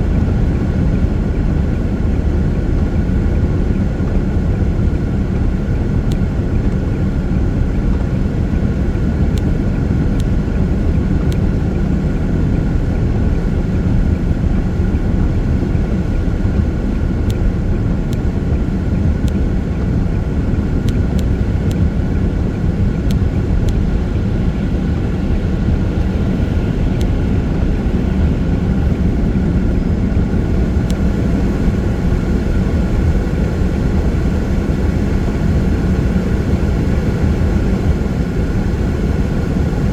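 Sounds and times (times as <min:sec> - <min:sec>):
faint steady whine: 0:00.0 - 0:39.9
tyres and engine rumble: 0:00.0 - 0:39.9.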